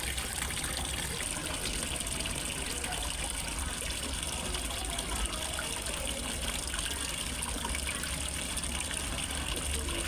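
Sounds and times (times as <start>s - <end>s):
small waterfall splashing into pond: 0.0s - 10.0s.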